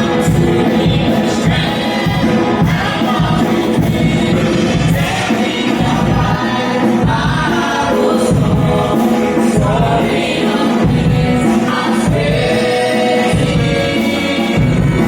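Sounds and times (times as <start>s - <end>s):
bass and drum beat: 0.0s - 15.0s
gospel choir singing: 0.0s - 15.0s.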